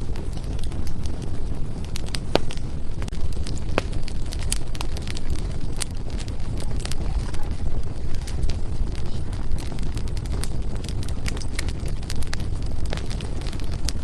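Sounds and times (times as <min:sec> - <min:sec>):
fire burning with crackles: 0:00.0 - 0:14.0.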